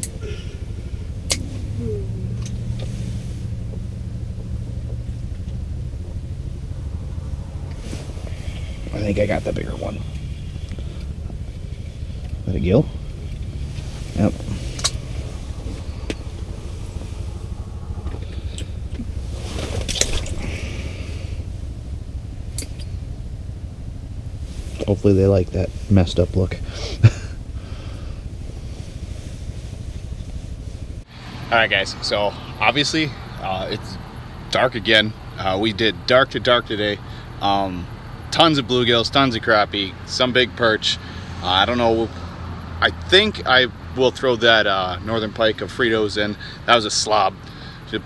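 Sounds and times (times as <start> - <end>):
low hum and rumble: 0.0 - 48.0.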